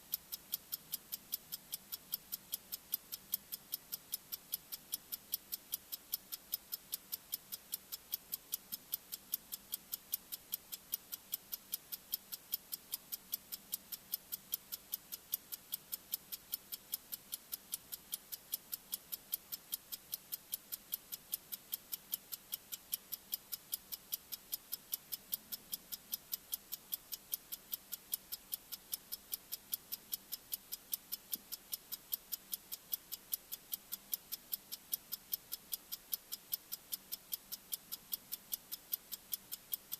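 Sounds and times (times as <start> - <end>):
timer ticking clicks: 0.0 - 39.9.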